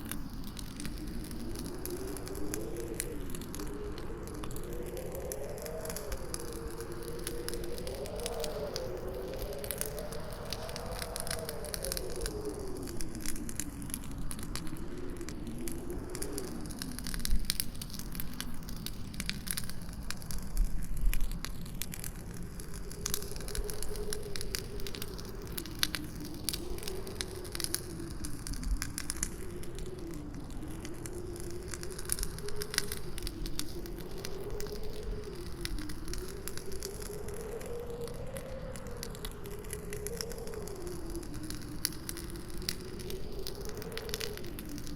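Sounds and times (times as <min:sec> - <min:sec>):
campfire crackling and popping: 0:00.0 - 0:44.9
howling wind: 0:00.0 - 0:44.9.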